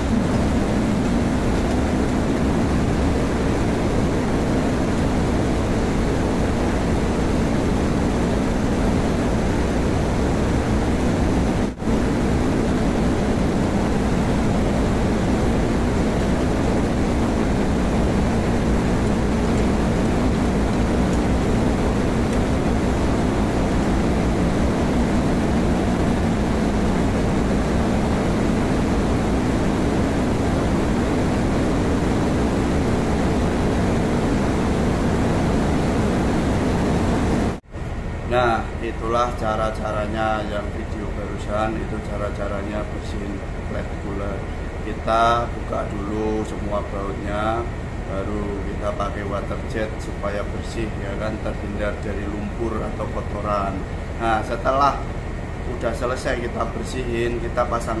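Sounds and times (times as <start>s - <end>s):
engine-room machinery din: 0.0s - 58.0s.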